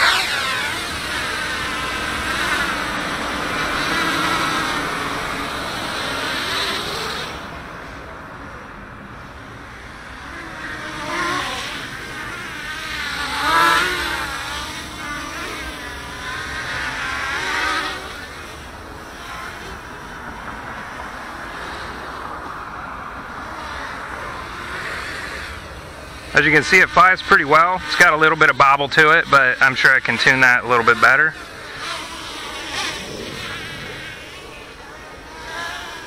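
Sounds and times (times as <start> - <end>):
quadcopter motors buzzing: 0.0 - 36.0.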